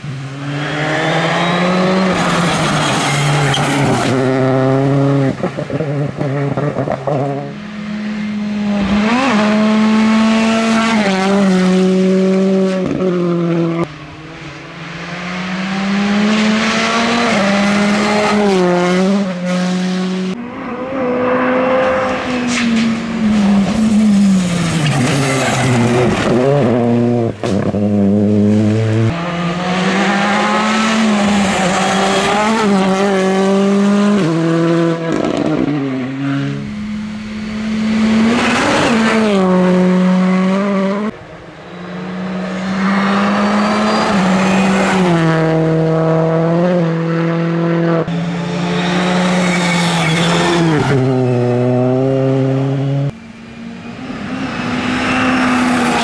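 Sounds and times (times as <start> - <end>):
rally cars passing at high revs: 0.0 - 56.0.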